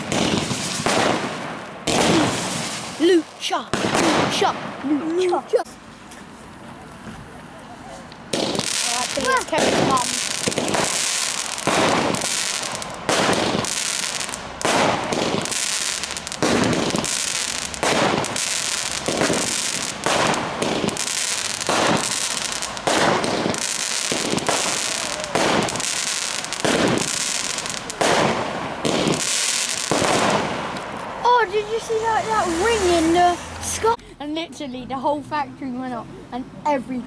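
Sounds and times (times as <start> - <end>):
fireworks banging: 0.0 - 6.3, 8.2 - 34.0
fireworks crackling: 0.0 - 6.6, 8.1 - 35.3.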